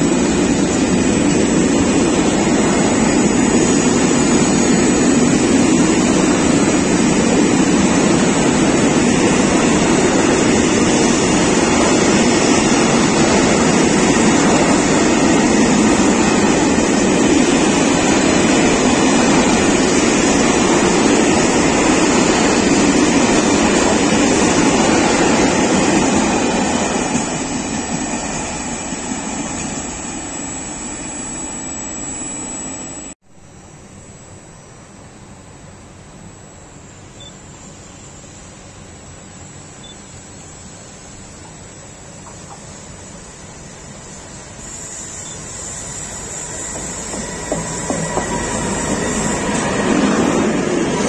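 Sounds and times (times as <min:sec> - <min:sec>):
freight train rumbling past: 0:00.0 - 0:31.2, 0:37.6 - 0:51.0.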